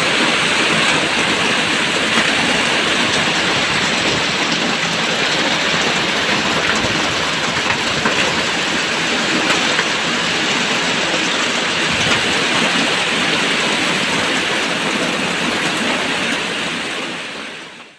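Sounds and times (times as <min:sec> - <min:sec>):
rain falling: 0:00.0 - 0:17.9.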